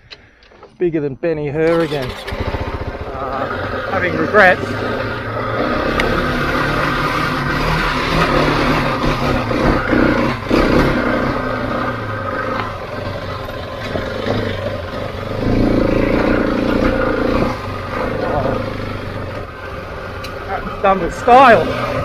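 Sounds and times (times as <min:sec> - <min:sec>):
motorcycle engine revving: 0:01.6 - 0:22.0.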